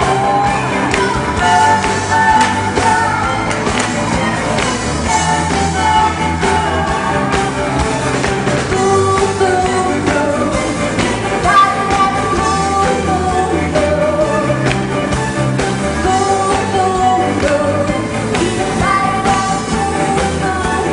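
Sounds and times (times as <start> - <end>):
person singing: 0.0 - 3.8, 5.0 - 8.0, 8.6 - 15.0, 15.9 - 20.9
band with steady beat: 0.0 - 19.8.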